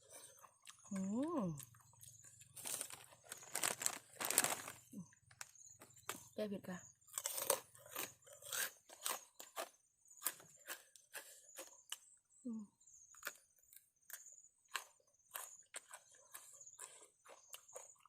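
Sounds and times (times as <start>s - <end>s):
crunchy chewing: 0.0s - 6.4s, 7.0s - 12.2s, 12.9s - 18.0s.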